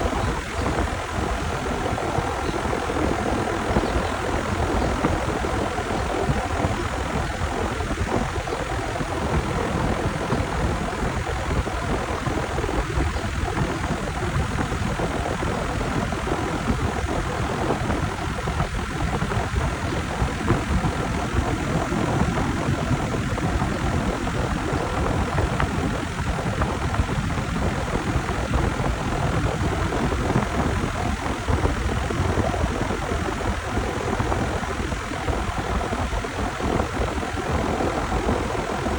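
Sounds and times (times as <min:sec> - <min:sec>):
compressor hum: 0:00.0 - 0:38.9
condenser fan whooshing: 0:00.0 - 0:38.9.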